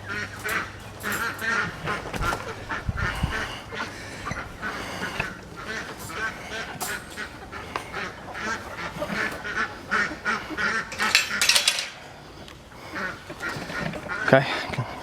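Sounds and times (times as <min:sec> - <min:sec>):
chickens squawking: 0:00.0 - 0:15.0.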